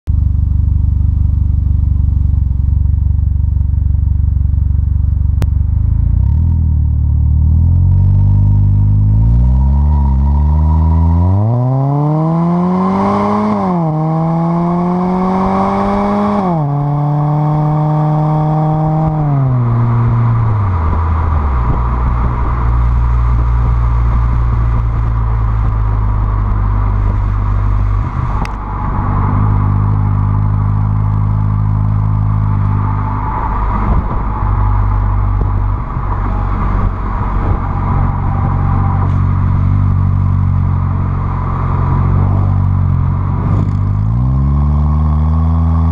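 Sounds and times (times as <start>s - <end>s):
car exhaust: 0.1s - 45.9s.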